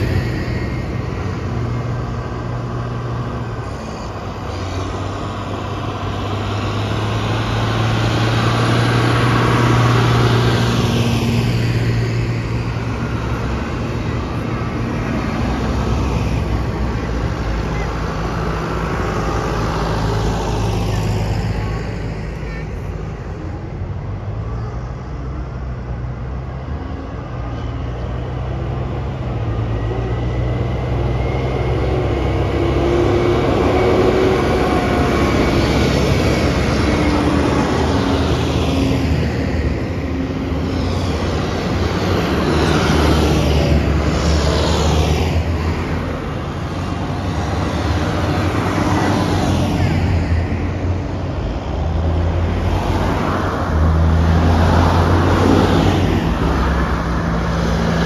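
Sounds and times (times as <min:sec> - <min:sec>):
tractor diesel engines running: 0:00.0 - 0:58.0.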